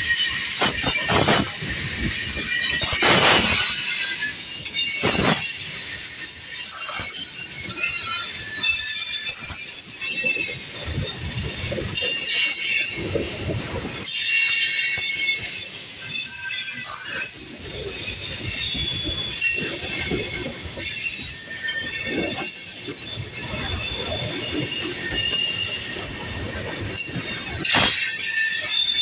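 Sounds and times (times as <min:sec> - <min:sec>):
rumble of wheels on rails: 0:00.0 - 0:29.0
train wheels squealing: 0:00.0 - 0:29.0.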